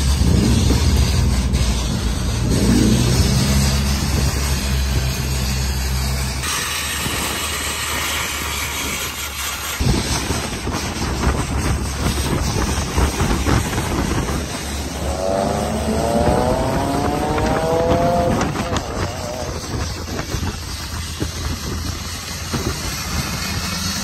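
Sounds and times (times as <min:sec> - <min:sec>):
road noise inside moving car: 0:00.0 - 0:24.0
vehicle engine accelerating: 0:00.0 - 0:24.0
wind hiss on microphone: 0:00.0 - 0:24.0.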